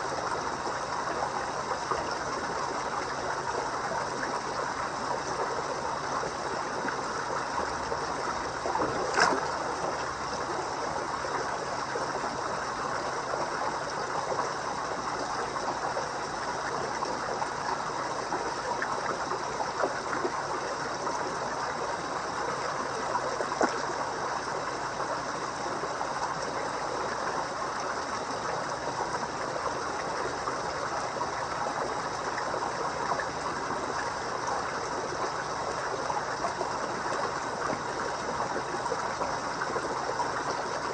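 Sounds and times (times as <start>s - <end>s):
pond water trickling: 0.0s - 40.9s.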